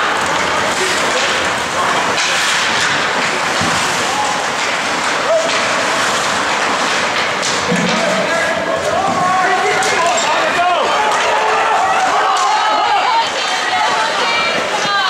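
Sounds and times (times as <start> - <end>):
skates scraping ice: 0.0 - 15.0
spectators' voices: 0.0 - 15.0.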